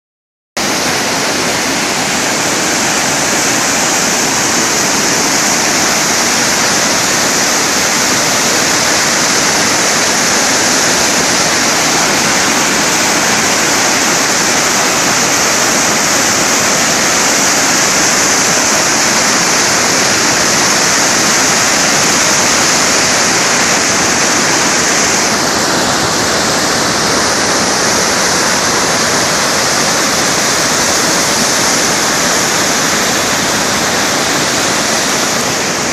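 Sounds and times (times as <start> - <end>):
river water rushing: 0.6 - 35.9.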